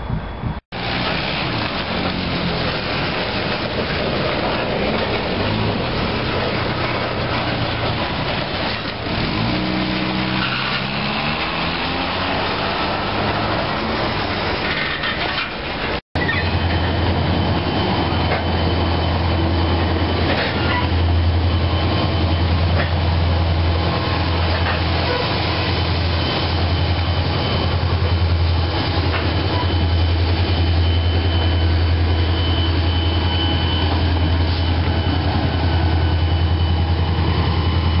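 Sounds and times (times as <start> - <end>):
diesel locomotive engine drone: 0.0 - 38.0
train rumbling over crossing: 0.0 - 38.0.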